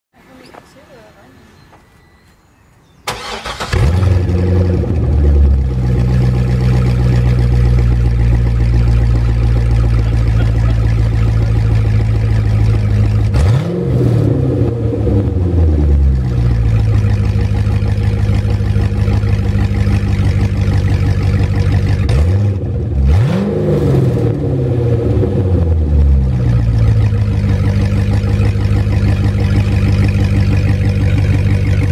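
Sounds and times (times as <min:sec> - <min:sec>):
car engine starting and idling: 0:03.0 - 0:31.9
car engine revving: 0:03.1 - 0:31.9.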